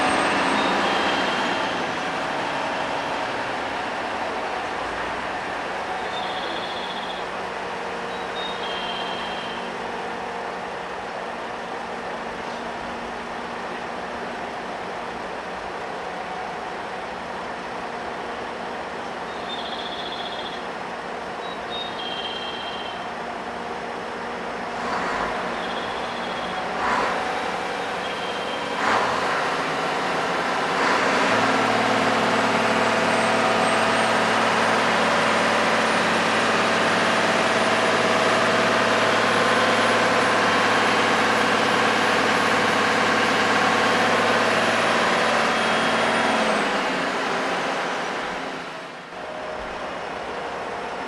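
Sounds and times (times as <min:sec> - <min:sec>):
train machinery humming: 0:00.0 - 0:51.0.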